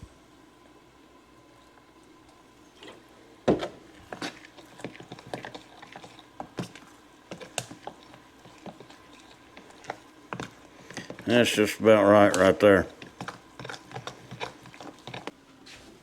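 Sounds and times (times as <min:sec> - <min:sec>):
spoon stirring batter in bowl: 0:02.4 - 0:15.4.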